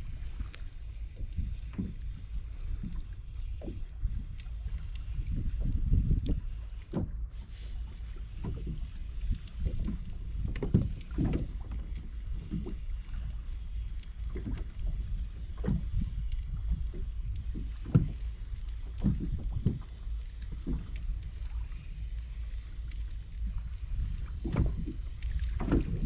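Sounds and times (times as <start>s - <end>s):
water lapping against hull: 0.0s - 26.0s
wind rumble on microphone: 0.0s - 26.0s.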